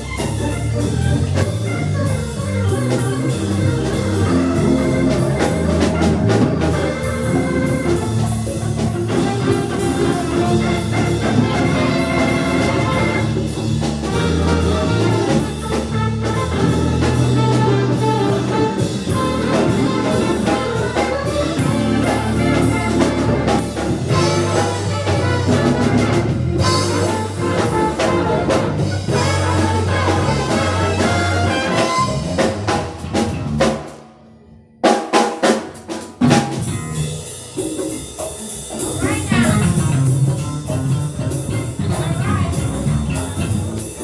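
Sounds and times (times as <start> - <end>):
live band music: 0.0 - 44.0.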